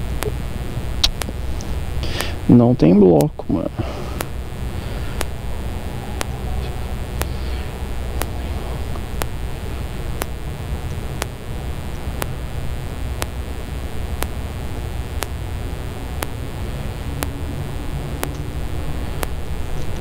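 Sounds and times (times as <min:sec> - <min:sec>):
faint sharp ticking: 0:00.0 - 0:20.0
low rumble with hiss: 0:00.0 - 0:20.0.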